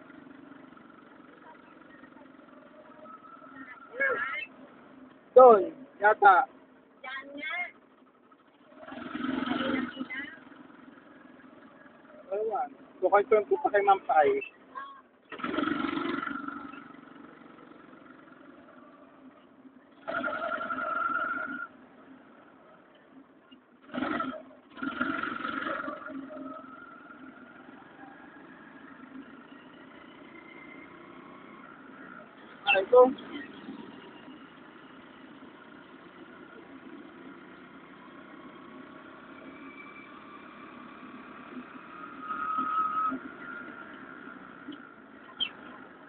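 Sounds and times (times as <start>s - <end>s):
faint steady tones: 0.0s - 15.4s, 16.2s - 46.0s
vehicle engine running: 0.0s - 46.0s.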